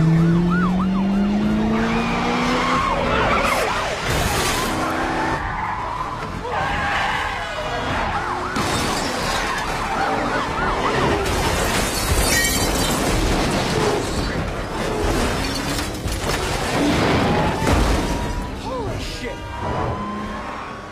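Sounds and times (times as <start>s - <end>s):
police sirens wailing: 0.0s - 12.6s, 16.5s - 20.9s
engines and tyres: 0.0s - 20.9s.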